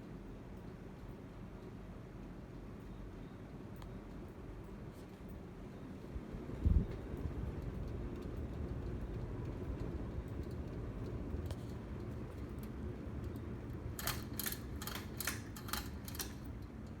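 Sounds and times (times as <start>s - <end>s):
ceiling fan whirring: 0.0s - 17.0s.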